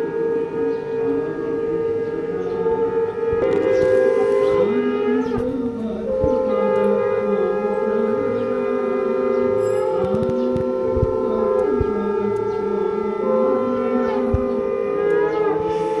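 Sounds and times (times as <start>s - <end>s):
conch shells blown: 0.0s - 16.0s.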